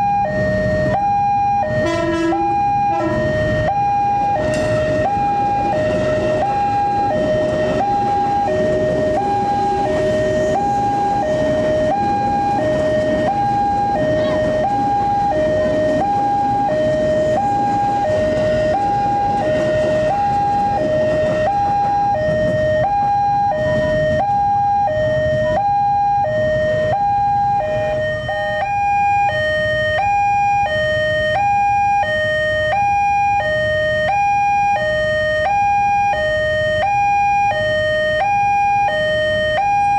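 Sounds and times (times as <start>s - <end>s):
two-tone warning alarm chime: 0.0s - 39.9s.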